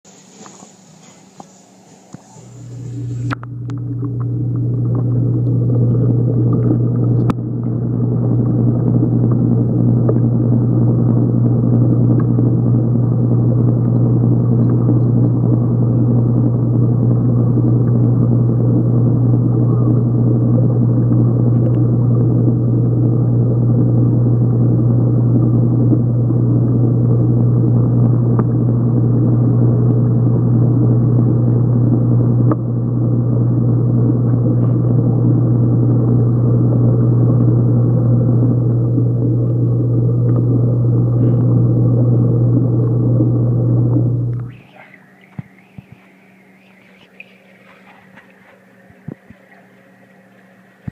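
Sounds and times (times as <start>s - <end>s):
underwater hum and rumble: 0.1s - 50.9s.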